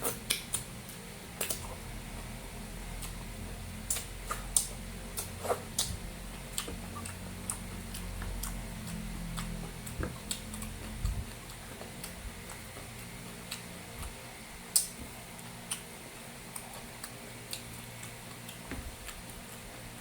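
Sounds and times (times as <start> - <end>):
chewing food: 0.0 - 20.0
low hum: 0.0 - 20.0.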